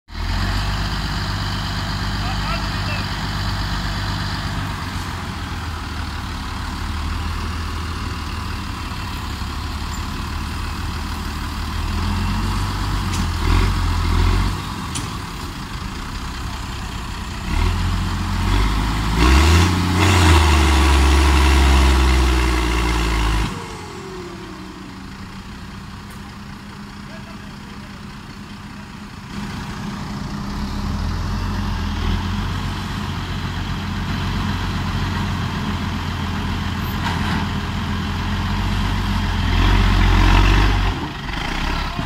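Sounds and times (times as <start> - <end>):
tractor engine revving under load: 0.1 - 25.7, 26.4 - 42.0.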